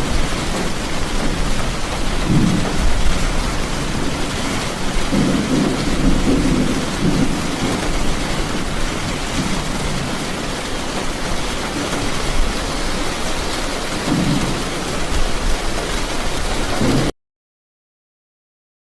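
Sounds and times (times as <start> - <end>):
heavy rain falling: 0.0 - 17.1
low thunder rumbles: 0.0 - 17.1.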